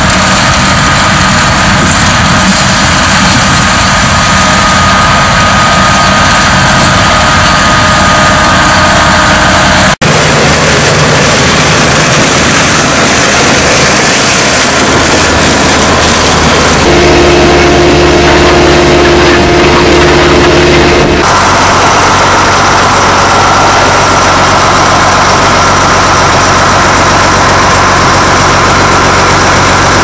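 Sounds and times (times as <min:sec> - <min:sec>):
harvester engine and machinery: 0:00.0 - 0:30.0
machine engine noise: 0:00.0 - 0:30.0
thin steady whine: 0:00.0 - 0:30.0.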